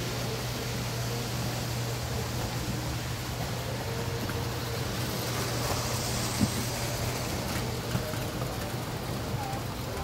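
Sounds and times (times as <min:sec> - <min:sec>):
model trains humming: 0:00.0 - 0:10.0.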